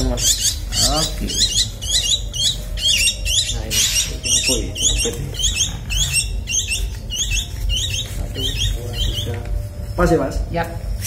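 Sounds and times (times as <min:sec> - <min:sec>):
nestlings chirping: 0:00.0 - 0:10.4.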